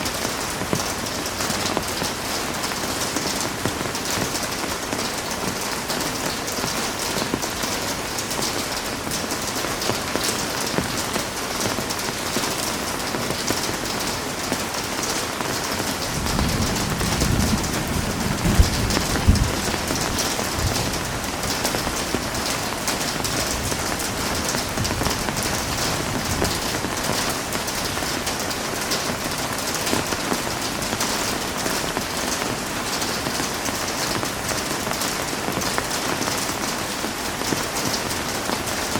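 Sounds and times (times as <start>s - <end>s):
heavy rain spattering: 0.0s - 38.9s.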